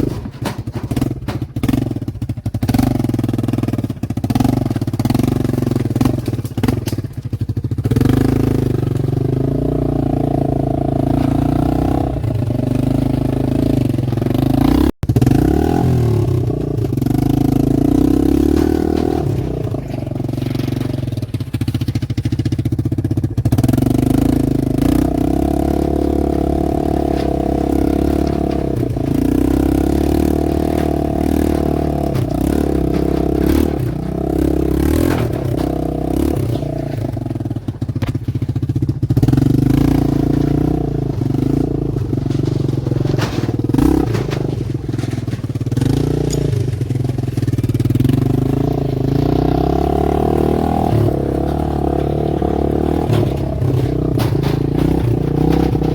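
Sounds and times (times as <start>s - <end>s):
clicks and clatter: 0.0s - 55.9s
engine running: 0.0s - 55.9s.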